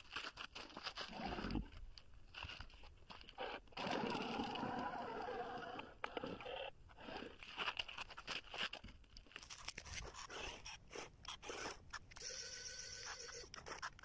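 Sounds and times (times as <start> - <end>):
toy wheels crunching on pavement: 0.0 - 14.0.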